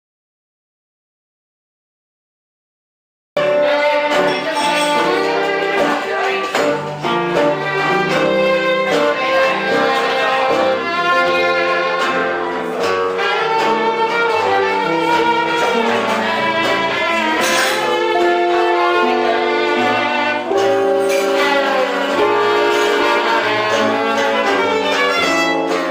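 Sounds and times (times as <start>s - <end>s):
fiddle melody: 3.4s - 25.9s
guitar playing: 3.4s - 25.9s.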